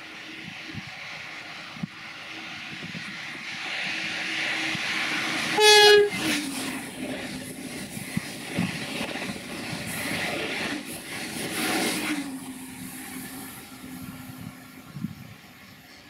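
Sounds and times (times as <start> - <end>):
high-speed train passing: 0.0 - 16.0.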